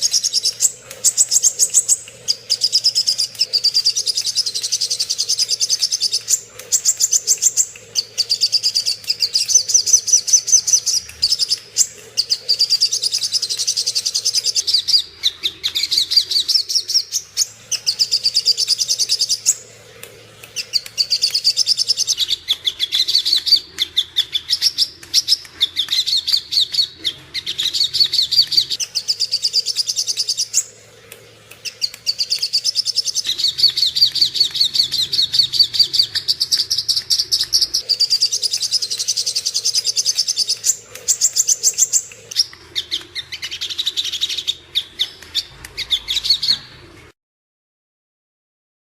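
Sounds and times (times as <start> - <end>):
bird chattering trills: 0.0 - 46.7.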